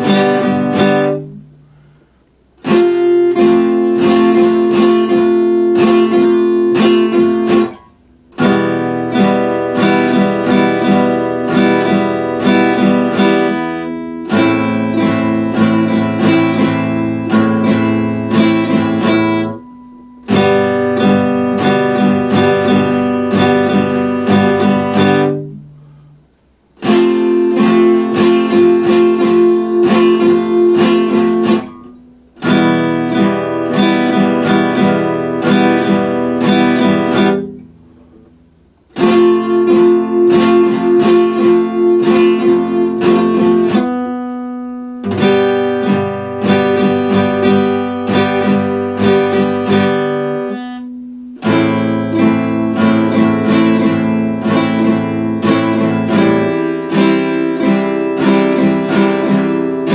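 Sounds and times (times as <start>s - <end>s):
steel-string acoustic guitar strummed: 0.0s - 59.9s.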